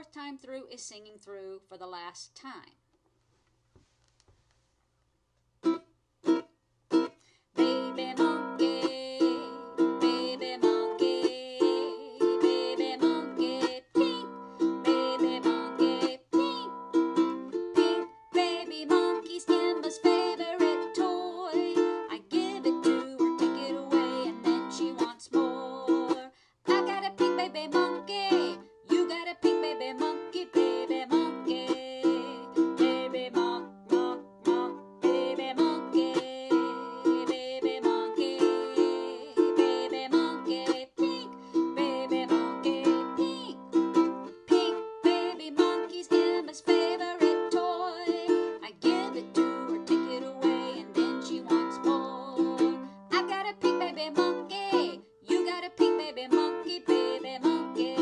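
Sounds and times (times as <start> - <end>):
ukulele strumming blues: 5.6 - 58.0.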